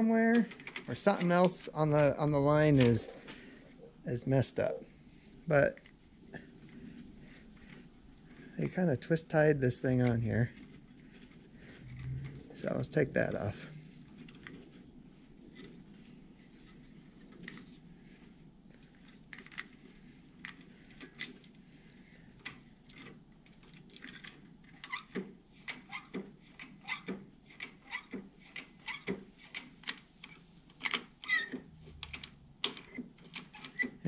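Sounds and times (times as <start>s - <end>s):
hands rustling with clicks and rattles: 0.0s - 4.0s, 5.0s - 34.0s.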